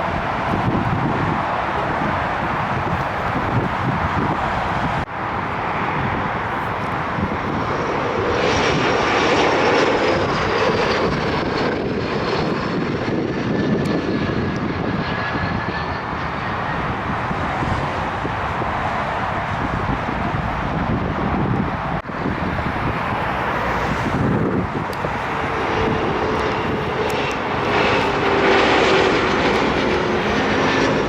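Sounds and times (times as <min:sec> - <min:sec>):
airliner engines passing: 0:00.0 - 0:31.0
high engine whine: 0:00.0 - 0:31.0
wind noise on microphone: 0:00.0 - 0:31.0.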